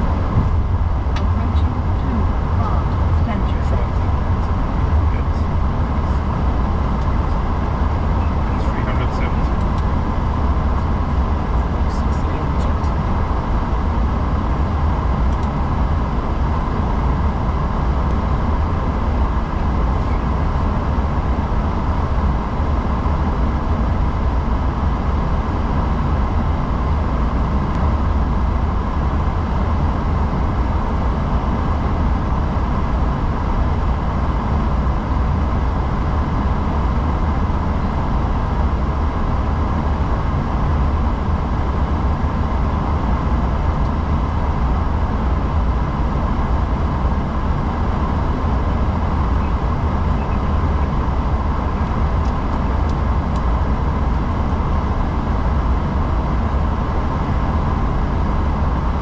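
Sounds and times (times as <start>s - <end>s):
aircraft engine rumble: 0.0s - 59.0s
faint steady whine: 0.0s - 59.0s.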